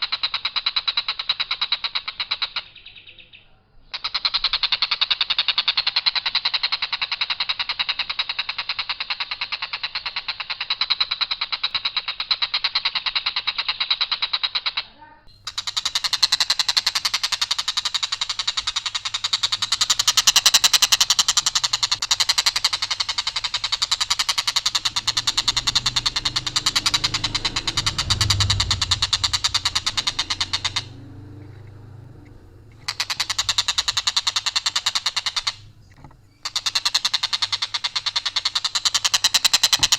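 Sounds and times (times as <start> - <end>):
kingfisher rattling call: 3.9 - 39.9.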